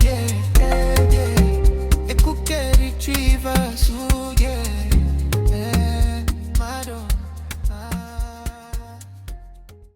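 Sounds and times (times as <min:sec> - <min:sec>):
steady drum beat: 0:00.0 - 0:09.0
afrobeat song: 0:00.0 - 0:09.9
bass: 0:00.0 - 0:09.9.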